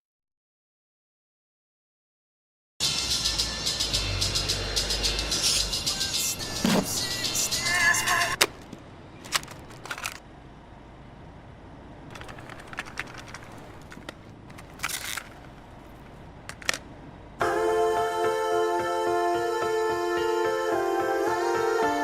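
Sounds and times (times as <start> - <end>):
background hum: 2.9 - 22.0.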